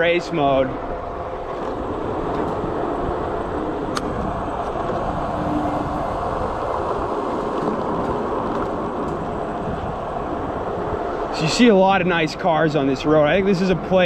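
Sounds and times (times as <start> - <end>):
wind and tyre noise: 0.0 - 14.0.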